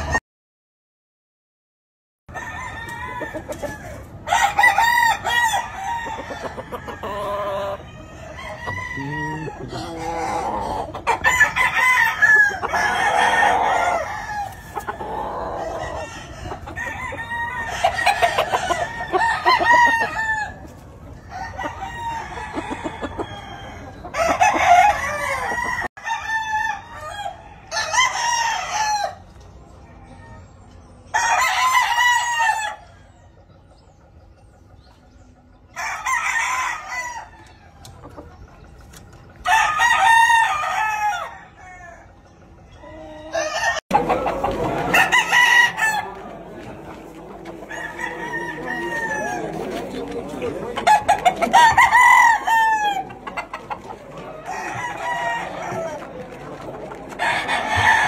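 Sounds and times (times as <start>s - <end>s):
roosters crowing: 0.0s - 0.2s, 2.3s - 58.0s.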